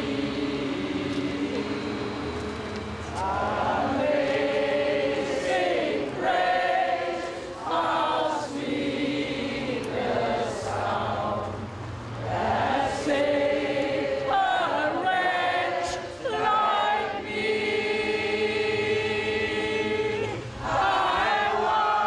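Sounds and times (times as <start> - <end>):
choir singing long notes: 0.0 - 22.0.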